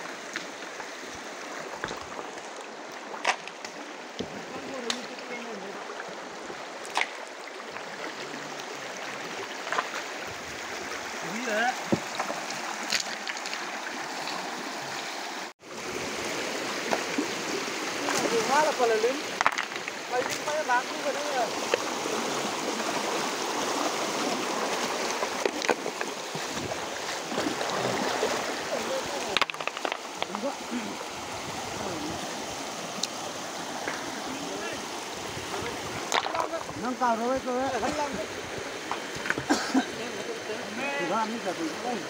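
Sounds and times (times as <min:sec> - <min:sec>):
stream running over stones: 0:00.0 - 0:42.0.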